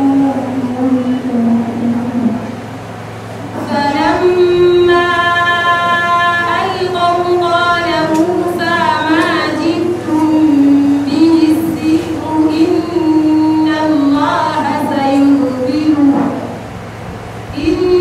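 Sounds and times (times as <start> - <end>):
woman chanting recitation: 0.0 - 2.6, 3.6 - 16.6, 17.5 - 18.0.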